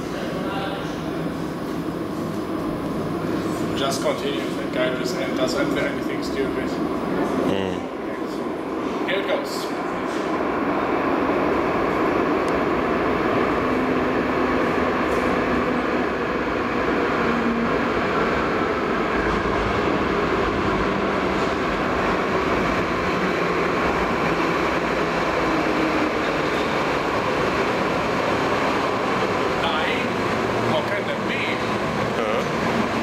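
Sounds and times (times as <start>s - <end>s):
tram wheels running on rail: 0.0s - 33.0s.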